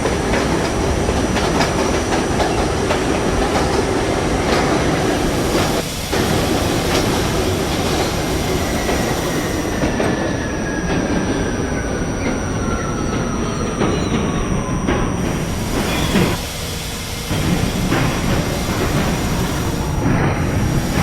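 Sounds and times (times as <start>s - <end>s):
subway train rumbling on track: 0.0s - 21.0s
train whine falling in pitch: 0.0s - 21.0s.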